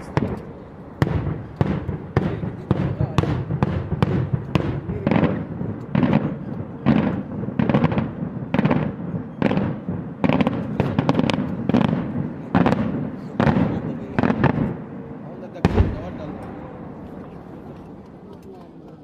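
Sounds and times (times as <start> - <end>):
fireworks bangs with echo: 0.0 - 18.6
fireworks crackling: 0.0 - 19.0.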